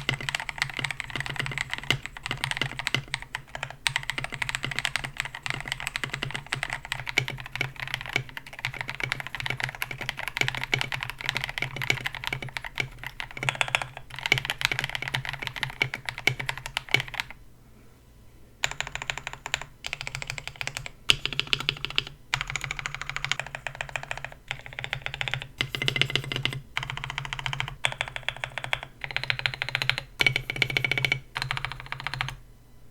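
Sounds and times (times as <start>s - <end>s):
mechanical keyboard typing: 0.0s - 17.4s, 18.6s - 32.4s.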